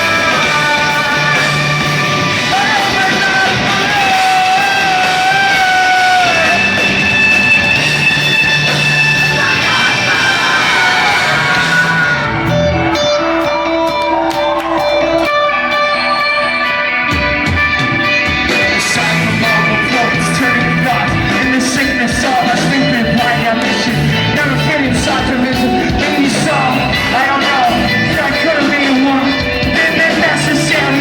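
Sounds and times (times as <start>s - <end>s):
person singing: 0.0s - 7.0s, 9.0s - 31.0s
live rock band playing: 0.0s - 31.0s.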